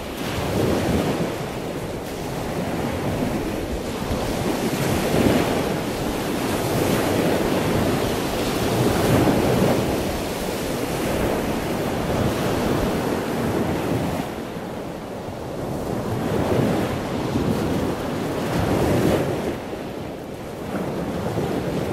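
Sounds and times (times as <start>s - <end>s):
surf rushing: 0.0s - 21.9s
wind buffeting microphone: 0.0s - 21.9s.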